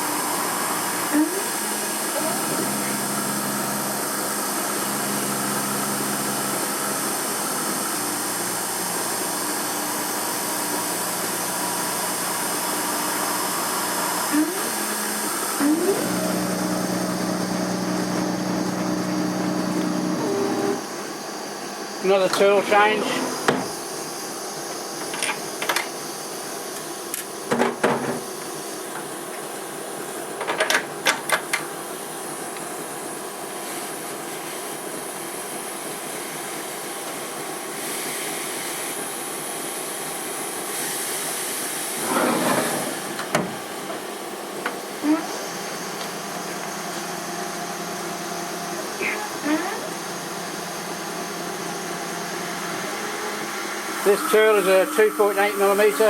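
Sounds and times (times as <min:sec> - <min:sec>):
milling machine hiss and hum: 0:00.0 - 0:56.0.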